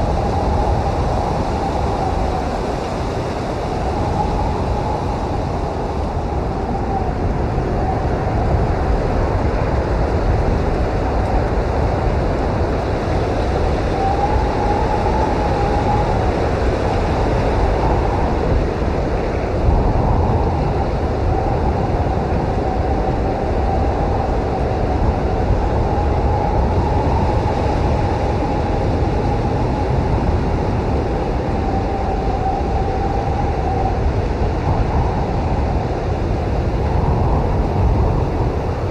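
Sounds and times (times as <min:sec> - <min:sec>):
strong wind whistling: 0:00.0 - 0:38.9.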